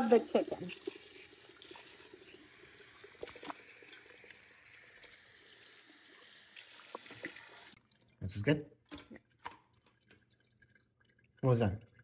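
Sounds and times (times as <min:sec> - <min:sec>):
tap water running into metal pot: 0:00.0 - 0:12.0.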